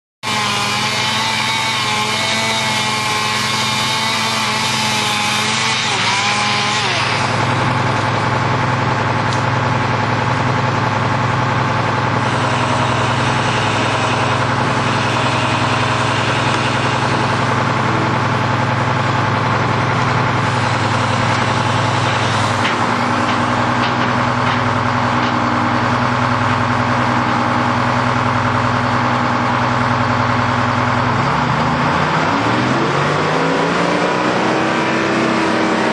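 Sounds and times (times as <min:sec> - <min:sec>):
heavy engine running: 0:00.2 - 0:35.9.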